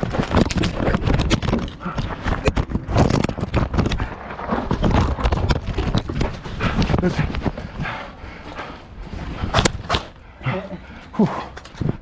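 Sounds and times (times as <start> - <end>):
running footsteps on dirt: 0.0 - 10.3.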